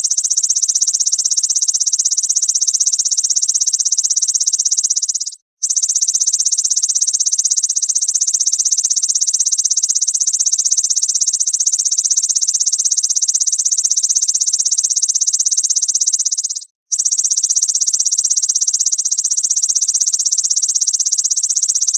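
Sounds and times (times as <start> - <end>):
grasshopper stridulating: 0.0 - 21.9.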